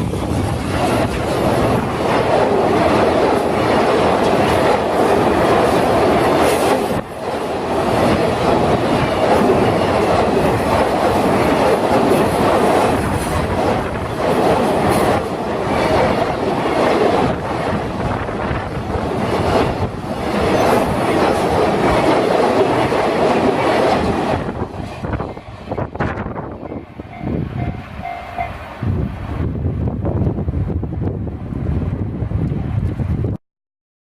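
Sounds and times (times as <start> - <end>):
train wheels clattering on rails: 0.0 - 28.6.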